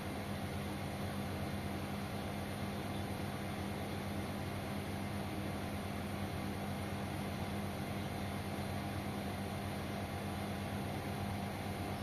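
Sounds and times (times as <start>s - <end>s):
washing machine motor drone: 0.0s - 12.0s.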